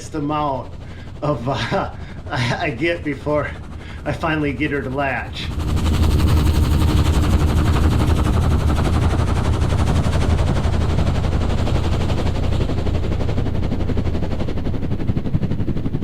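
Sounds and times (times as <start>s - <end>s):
tracked loader engine and tracks clattering: 2.8s - 16.0s.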